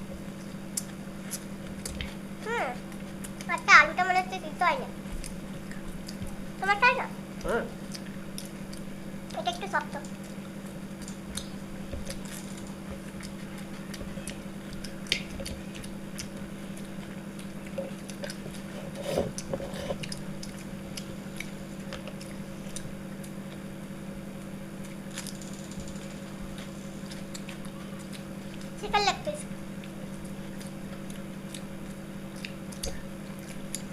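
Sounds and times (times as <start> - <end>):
steady low hum: 0.0 - 33.9
chewing and biting: 0.1 - 33.9.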